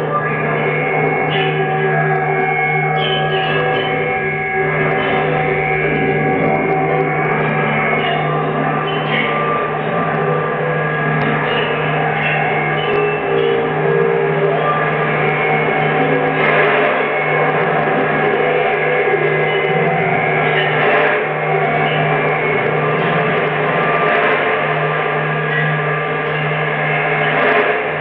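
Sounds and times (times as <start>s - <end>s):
layered electronic drone tones: 0.0s - 28.0s
steady low hum: 0.0s - 28.0s
swells of noise: 3.8s - 28.0s.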